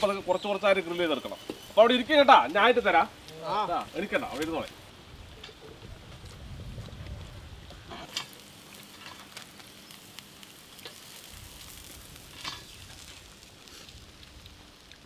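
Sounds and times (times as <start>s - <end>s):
charcoal fire sizzling and crackling: 0.0s - 15.0s
fire popping: 0.0s - 15.0s.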